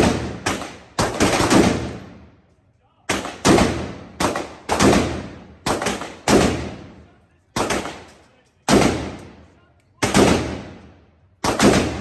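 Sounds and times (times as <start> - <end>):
gunshots with echoing decay: 0.0 - 2.4, 3.0 - 12.0.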